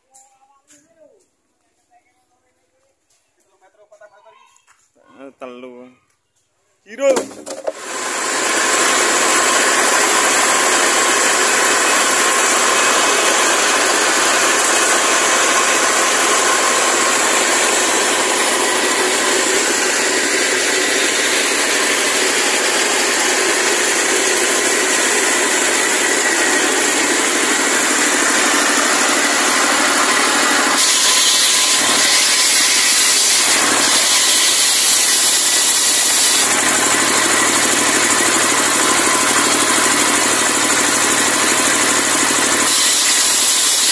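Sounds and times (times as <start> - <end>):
saw blade cutting wood: 7.0 - 43.9
circular saw whining: 7.6 - 43.9
diesel engine running: 7.7 - 43.9.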